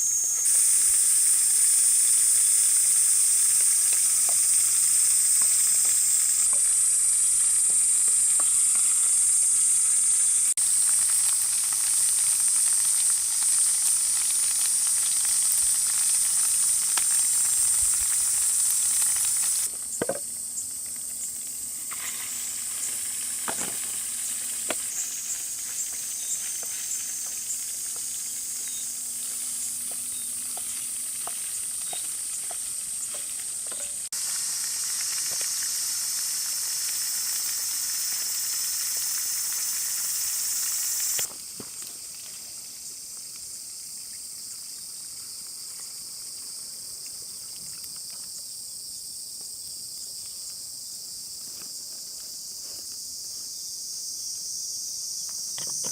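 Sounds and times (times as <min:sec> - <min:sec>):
food sizzling in a skillet: 0:00.0 - 0:46.2.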